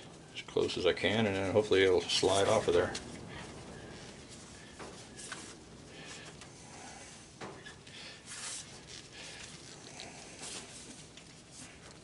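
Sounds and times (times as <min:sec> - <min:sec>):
knocks scrapes and rustles: 0:02.1 - 0:12.0.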